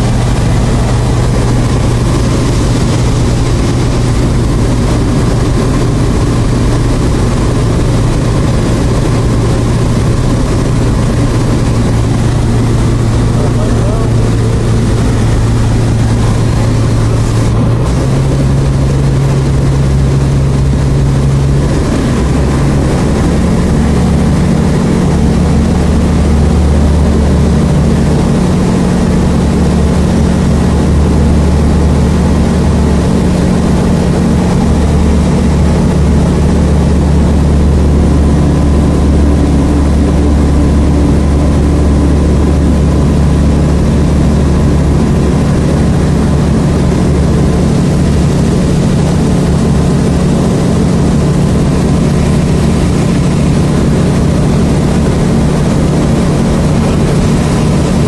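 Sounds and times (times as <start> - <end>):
light airplane engine and propeller: 0.0 - 58.0.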